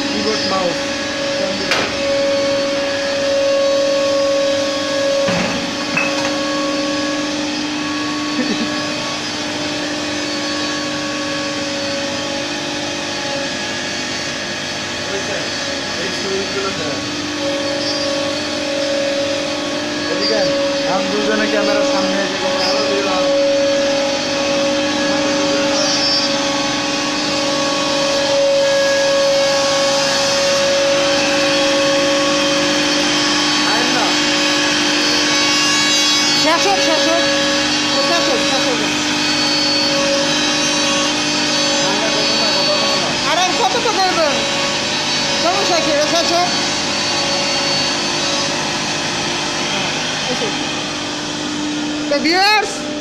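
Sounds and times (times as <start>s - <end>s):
hiss of cutting and dust extraction: 0.0s - 52.1s
router spindle whine: 0.0s - 53.0s.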